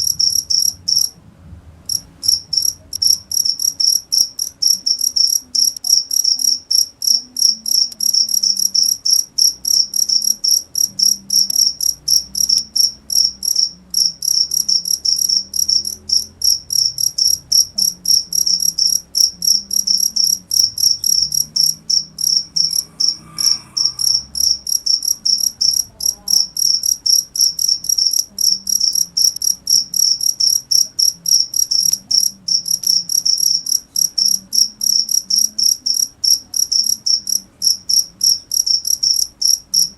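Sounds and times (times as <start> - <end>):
cricket chirping: 0.0 - 1.2, 1.9 - 39.9.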